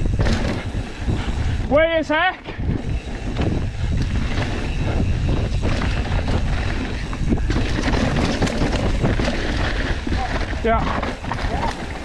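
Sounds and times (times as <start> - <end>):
bike rattling over bumps: 0.0 - 12.0
bike tyres rumbling over rocks: 0.0 - 12.0
wind buffeting microphone: 0.0 - 12.0.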